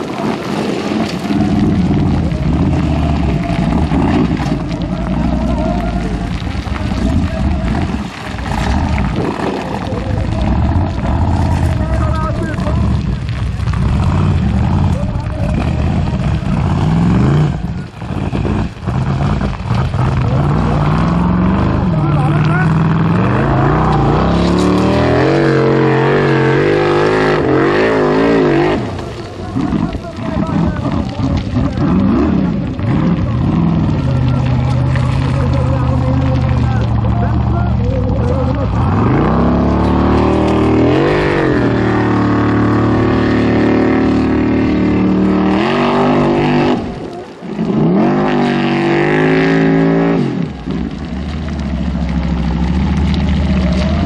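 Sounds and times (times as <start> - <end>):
buggy engine revving hard: 0.0 - 54.0.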